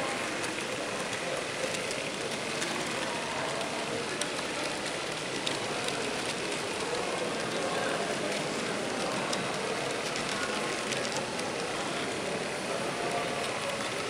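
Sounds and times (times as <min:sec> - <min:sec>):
model train motor whirring: 0:00.1 - 0:14.0.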